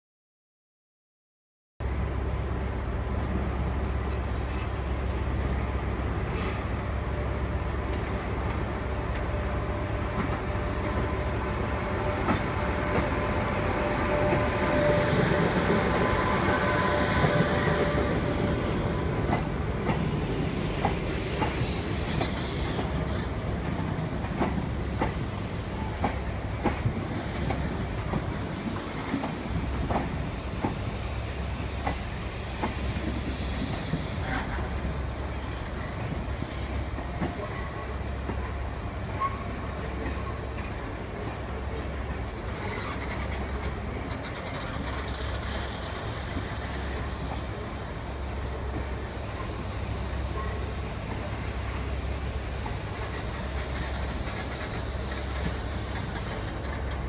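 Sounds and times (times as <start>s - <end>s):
train rumbling: 1.8s - 57.0s.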